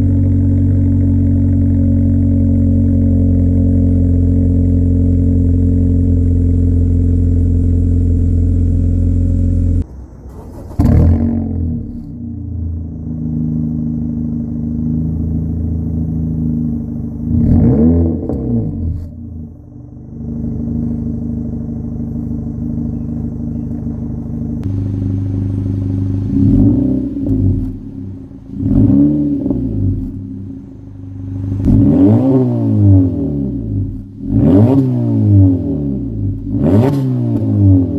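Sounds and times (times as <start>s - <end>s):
car engine idling: 0.0s - 37.9s
engine throttle blips: 0.0s - 37.9s.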